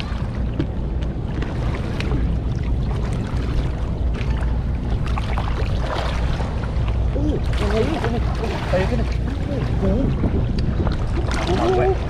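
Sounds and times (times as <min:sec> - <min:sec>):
legs wading through water: 0:00.0 - 0:12.0
small water splashes: 0:00.0 - 0:12.0
wind noise on microphone: 0:00.0 - 0:12.0.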